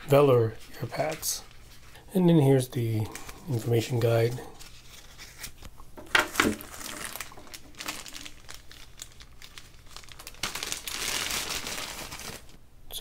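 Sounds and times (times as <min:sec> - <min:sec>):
plastic bag crinkling: 0:00.0 - 0:05.6, 0:06.2 - 0:12.6.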